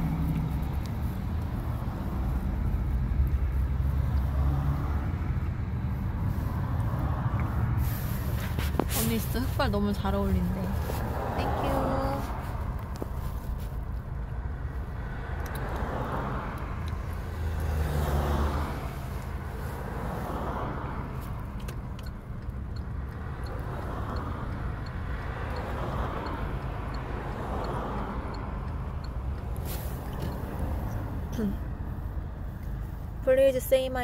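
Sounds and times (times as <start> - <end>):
car engine rumble inside cabin: 0.0 - 34.0.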